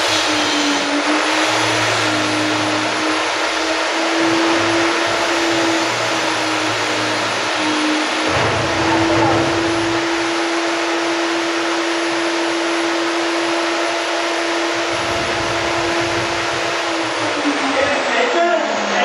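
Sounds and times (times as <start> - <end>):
electric motor hissing and humming: 0.0 - 19.0.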